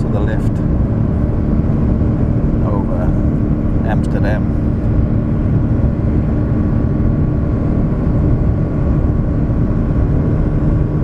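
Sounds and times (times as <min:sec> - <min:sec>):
jet engines and airflow: 0:00.0 - 0:11.0
low steady hum: 0:00.0 - 0:11.0.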